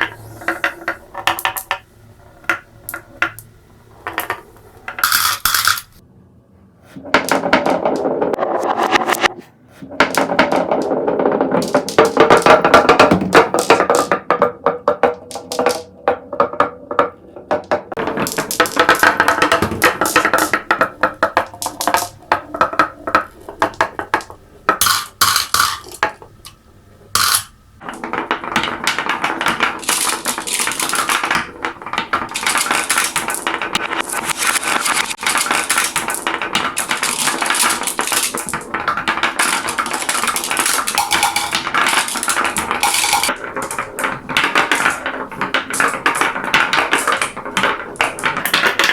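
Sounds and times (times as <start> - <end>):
marbles rattling down a track: 0.0 - 3.4, 4.0 - 6.0, 10.0 - 14.4, 17.9 - 26.6, 27.2 - 48.9.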